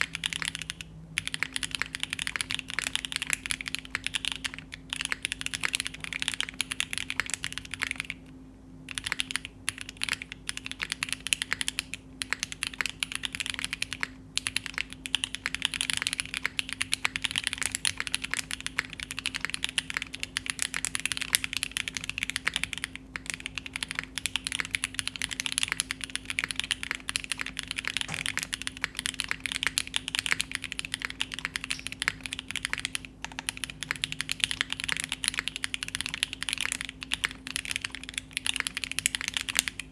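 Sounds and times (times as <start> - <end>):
fast typing on mechanical keyboard: 0.0 - 8.2, 8.9 - 39.9.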